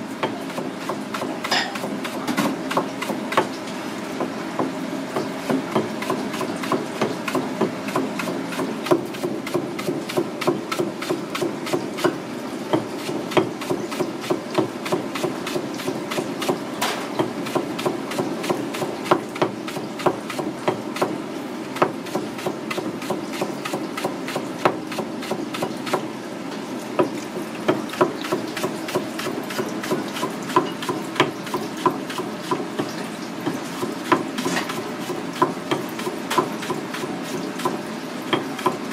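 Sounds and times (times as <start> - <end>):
knife chopping on plastic board: 0.2 - 3.5, 4.2 - 21.2, 21.8 - 26.1, 27.7 - 38.9.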